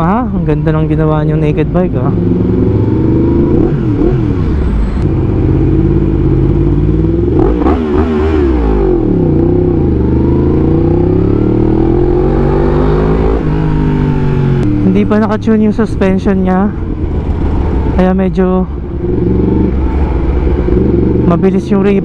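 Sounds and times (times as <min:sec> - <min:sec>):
motorcycle engine revving: 0:01.9 - 0:18.1, 0:18.7 - 0:22.0.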